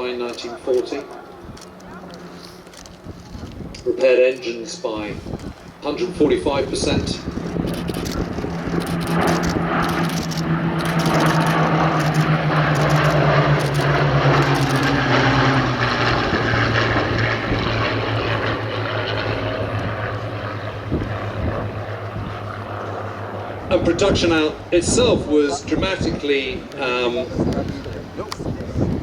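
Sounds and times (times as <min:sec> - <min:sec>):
propeller plane flying past: 0:00.0 - 0:29.0.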